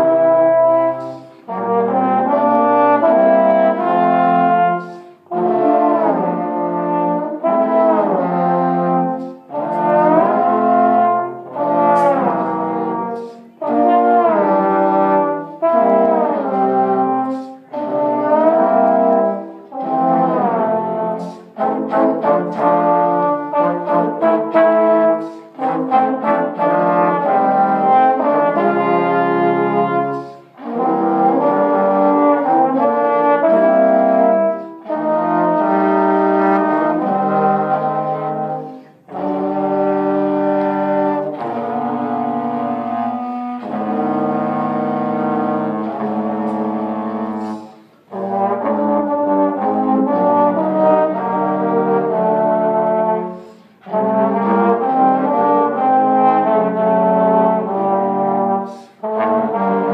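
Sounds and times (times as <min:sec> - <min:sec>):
trombone quartet playing: 0:00.0 - 0:59.9.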